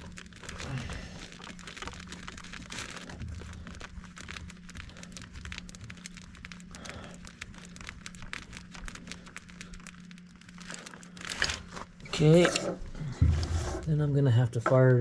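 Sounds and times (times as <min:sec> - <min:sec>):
hands rustling among wiring: 0:00.0 - 0:15.0
steady low hum: 0:00.0 - 0:15.0.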